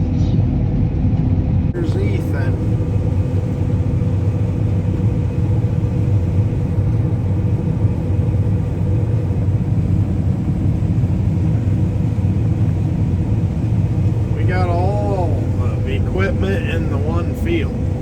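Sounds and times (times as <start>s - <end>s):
combine harvester low rumble: 0.0s - 18.0s
faint constant whine: 0.0s - 18.0s.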